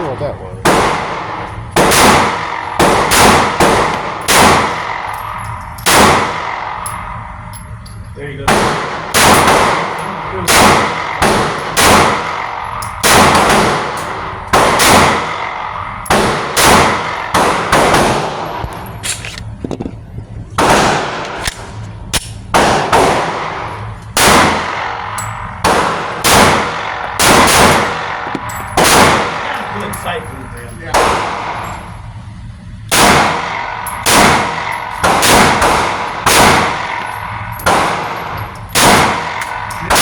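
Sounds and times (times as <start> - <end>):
pistol shots: 0.6 - 7.2, 8.4 - 19.2, 20.6 - 30.1, 30.9 - 31.8, 32.9 - 40.0.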